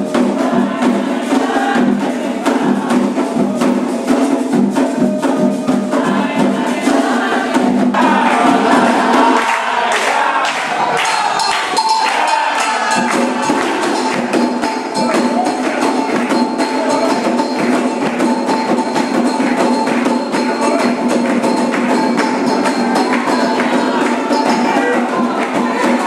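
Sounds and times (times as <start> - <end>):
fast hand percussion: 0.0 - 26.0.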